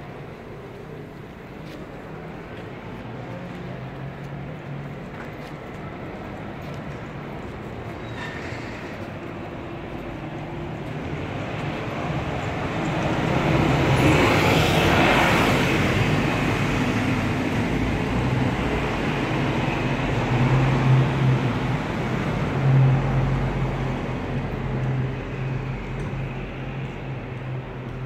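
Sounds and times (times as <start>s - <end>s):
bus passing by: 0.0s - 28.0s
street traffic hum: 0.0s - 28.0s.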